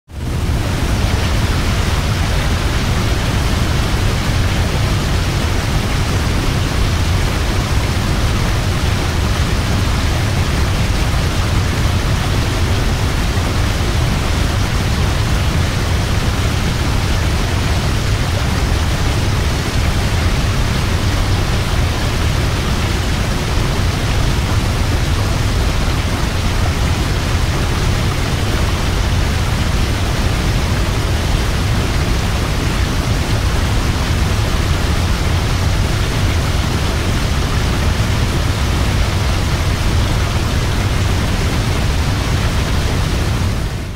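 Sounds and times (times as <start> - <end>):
waterfall rushing: 0.1 - 43.9.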